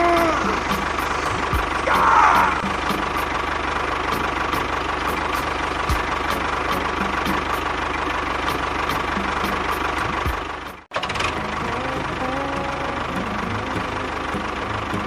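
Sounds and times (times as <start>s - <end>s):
small engine knocking: 0.0s - 15.0s.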